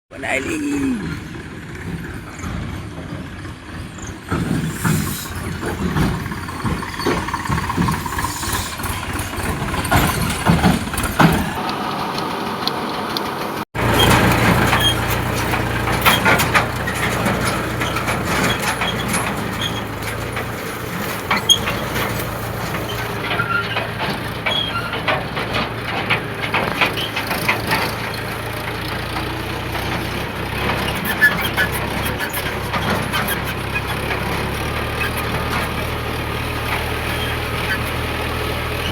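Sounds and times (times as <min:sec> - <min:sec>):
tractor engine running: 0:00.1 - 0:38.9
load rattling and knocking: 0:01.3 - 0:11.6, 0:13.8 - 0:37.8.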